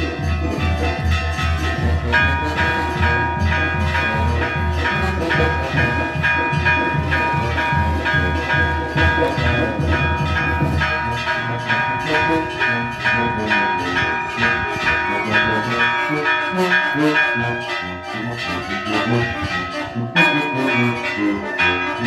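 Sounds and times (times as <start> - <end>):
church bells pealing: 0.0 - 22.0
music with heavy bass: 0.0 - 22.0.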